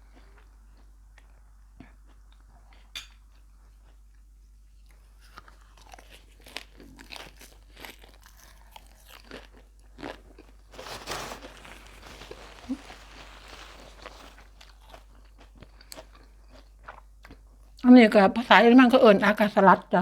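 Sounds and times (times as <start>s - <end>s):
crunching and chewing: 0.0s - 17.8s.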